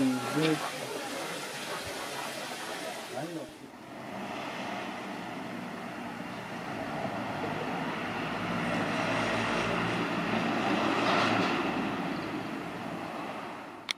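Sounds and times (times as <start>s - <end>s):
passing vehicle rumble: 0.0s - 13.9s.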